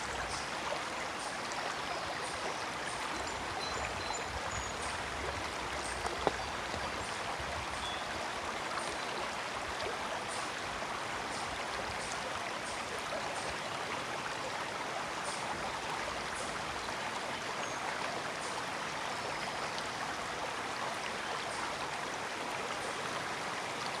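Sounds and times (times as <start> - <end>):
brook babbling: 0.0 - 24.0.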